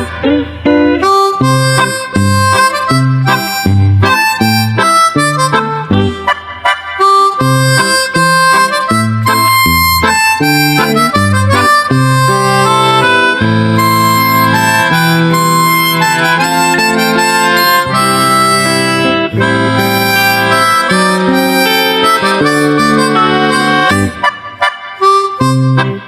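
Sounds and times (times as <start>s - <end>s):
guitar accompaniment: 0.0s - 26.0s
harmonica sliding notes: 0.0s - 26.0s.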